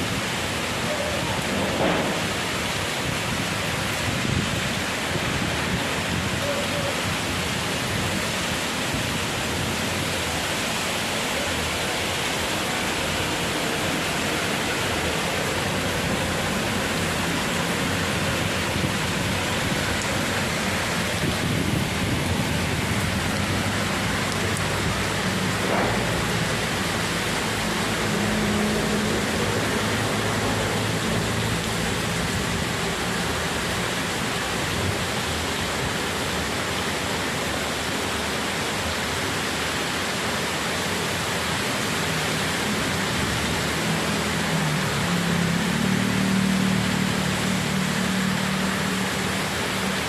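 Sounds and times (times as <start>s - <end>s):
heavy rain in strong wind: 0.0s - 50.0s.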